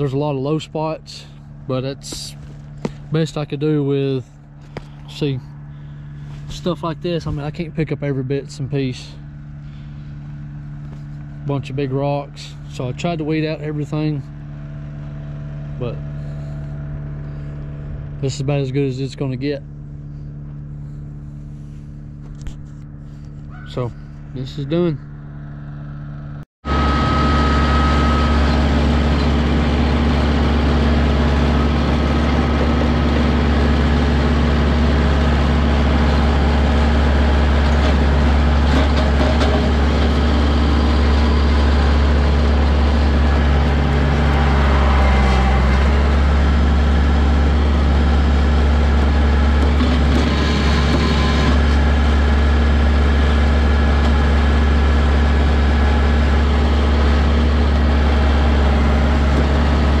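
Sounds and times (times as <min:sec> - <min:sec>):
tractor engine droning: 0:00.0 - 1:00.0.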